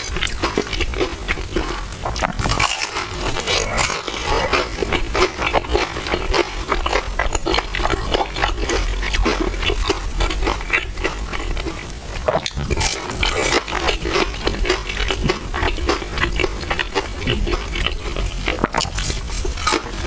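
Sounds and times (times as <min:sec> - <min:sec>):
chewing and slurping: 0:00.0 - 0:20.0.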